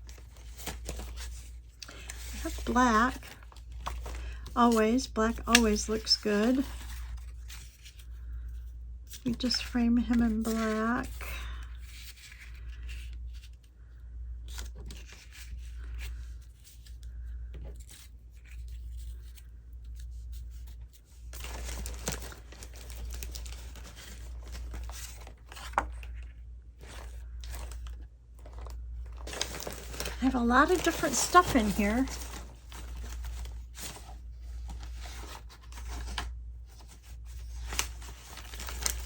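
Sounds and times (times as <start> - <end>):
cardstock sheets rustling: 0.0 - 8.1, 9.1 - 13.6, 14.5 - 39.0.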